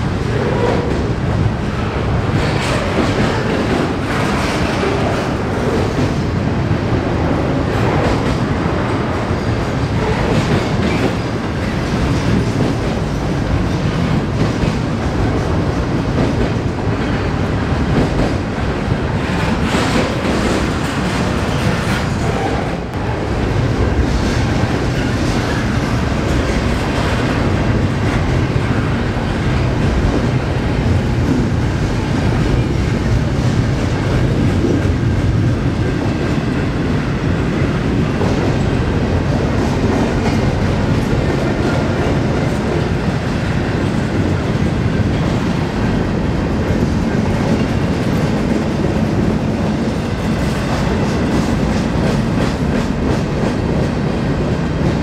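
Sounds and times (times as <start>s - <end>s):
train cars rumbling past: 0.0s - 55.0s.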